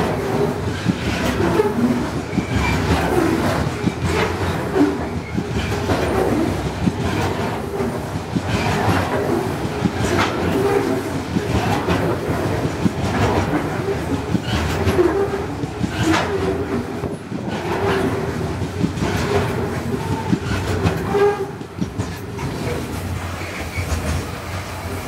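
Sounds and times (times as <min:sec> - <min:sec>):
wheels clacking over rail joints: 0:00.0 - 0:24.8
freight wagons rumbling: 0:00.0 - 0:24.9.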